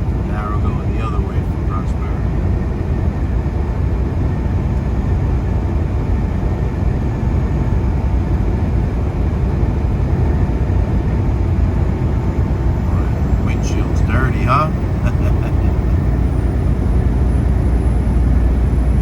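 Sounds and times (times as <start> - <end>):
diesel truck engine drone: 0.0 - 19.0
road noise inside cab: 0.0 - 19.0.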